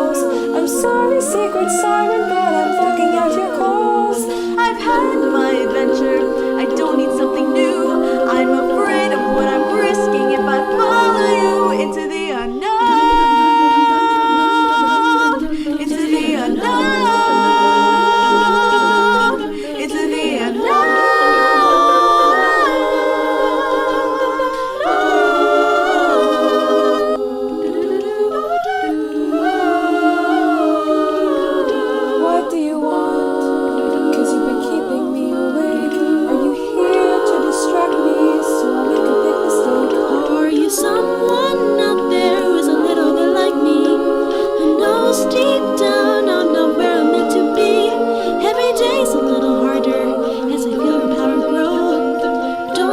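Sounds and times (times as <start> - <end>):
a cappella group singing: 0.0 - 52.9.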